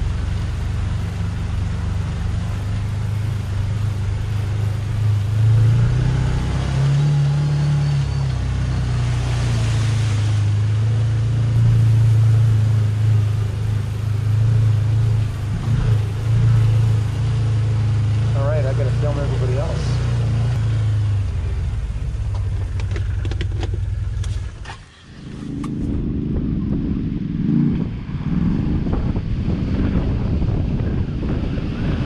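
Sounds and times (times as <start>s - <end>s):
water splashing around wheels: 0.0s - 26.6s, 27.2s - 32.0s
engine running steadily: 0.0s - 32.0s.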